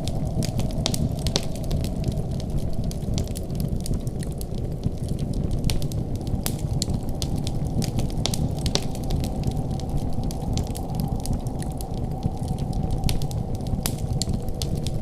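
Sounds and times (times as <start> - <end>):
low rumble of burning: 0.0 - 15.0
sharp pops and snaps: 0.0 - 15.0
wood fire crackling: 0.0 - 15.0.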